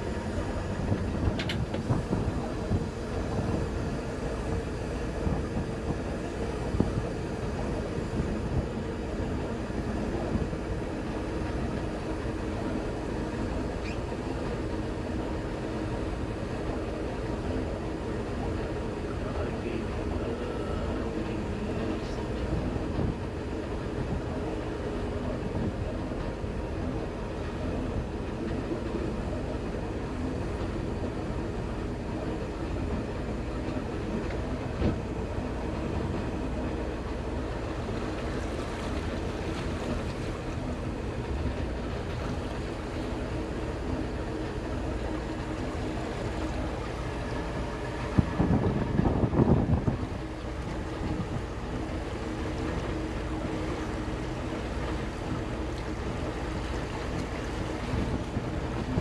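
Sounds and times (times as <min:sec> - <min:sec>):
motorboat engine humming: 0:00.0 - 0:59.0
water noise: 0:00.0 - 0:59.0.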